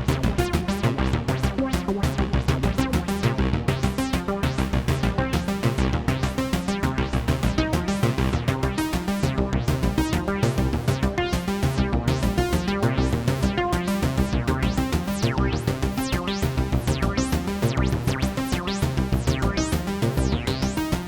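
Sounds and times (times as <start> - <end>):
analog synthesizer bassline: 0.0 - 21.0
synthesizer percussion patterns: 0.0 - 21.0.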